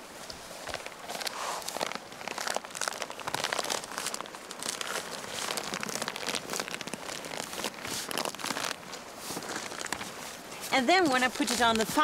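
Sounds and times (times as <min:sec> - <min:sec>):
newspaper crinkling and rustling: 0:00.4 - 0:12.0.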